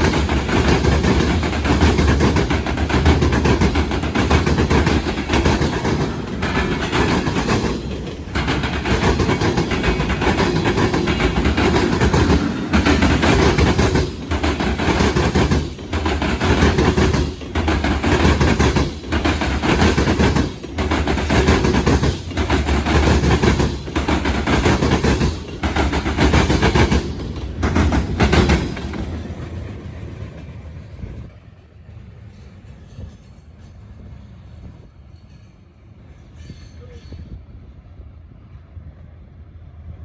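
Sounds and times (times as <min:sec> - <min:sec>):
freight train passing: 0:00.0 - 0:40.0.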